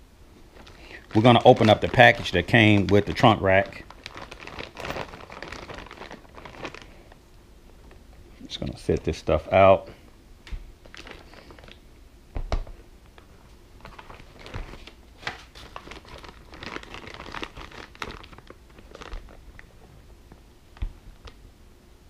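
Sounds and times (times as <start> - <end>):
plastic bag crinkling: 0.4 - 9.3, 10.8 - 11.8, 13.2 - 21.4.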